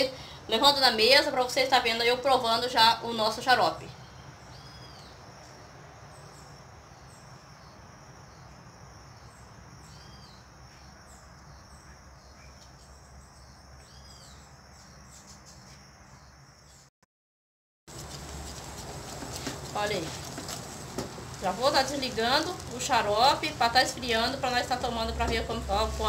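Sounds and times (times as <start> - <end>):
birds chirping: 1.8 - 16.9, 17.9 - 26.0.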